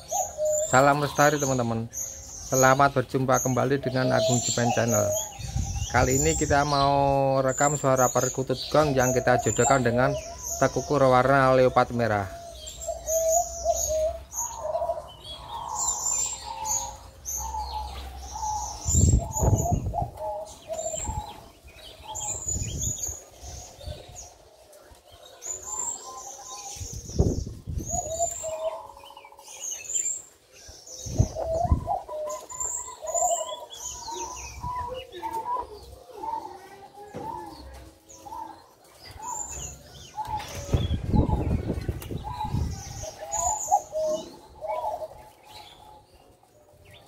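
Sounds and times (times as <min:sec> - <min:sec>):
dove cooing: 0:00.0 - 0:47.0
small birds chirping: 0:00.0 - 0:47.0.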